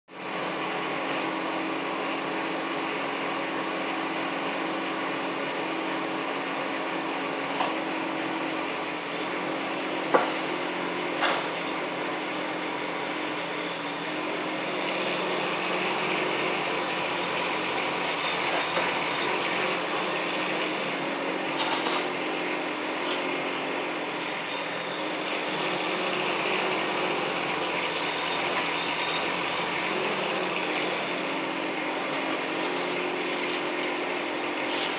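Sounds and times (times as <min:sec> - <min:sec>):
mini excavator running: 0:00.3 - 0:34.9.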